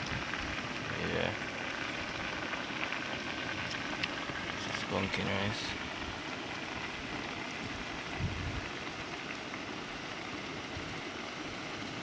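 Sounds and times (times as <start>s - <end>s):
pot of rice bubbling: 0.0s - 12.0s.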